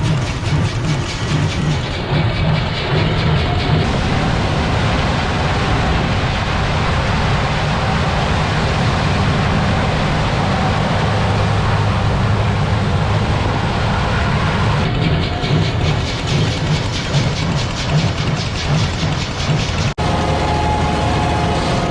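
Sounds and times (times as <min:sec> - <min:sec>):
heavy farm machinery running: 0:00.0 - 0:21.9.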